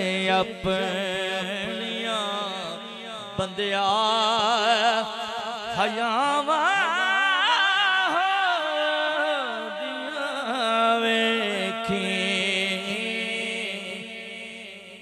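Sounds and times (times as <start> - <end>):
man chanting into microphone: 0.0 - 15.0.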